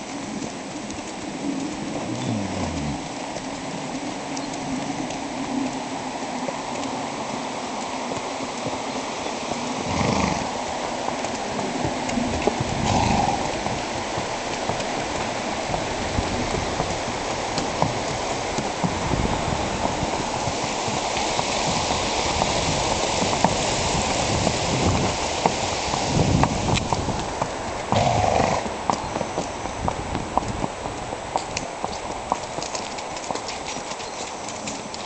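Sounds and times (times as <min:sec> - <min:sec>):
creek rushing: 0:00.0 - 0:29.7
hooves on wooden footbridge: 0:00.0 - 0:35.0.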